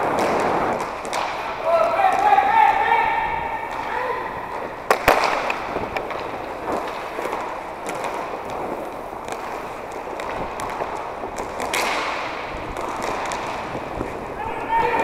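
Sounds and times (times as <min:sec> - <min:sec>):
stick striking puck: 0:00.0 - 0:02.8, 0:03.5 - 0:14.2
skate wheels rolling on plastic floor: 0:00.0 - 0:15.0.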